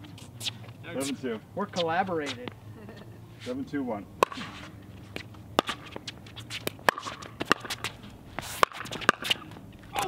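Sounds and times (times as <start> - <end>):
shoe scuffs on hard court: 0.0 - 2.5, 3.4 - 10.0.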